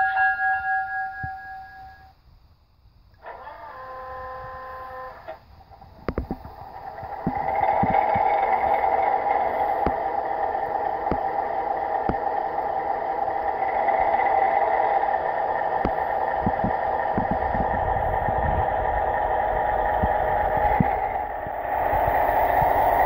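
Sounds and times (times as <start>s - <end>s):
model train motor whirring: 3.1s - 23.0s
wheels clicking over rail joints: 3.1s - 23.0s.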